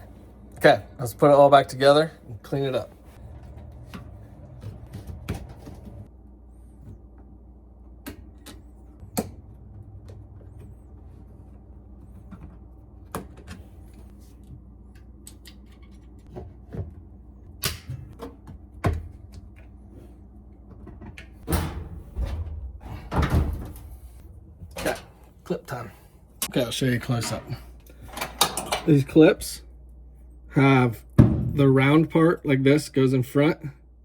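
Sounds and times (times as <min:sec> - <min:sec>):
low hum: 0:02.1 - 0:31.8.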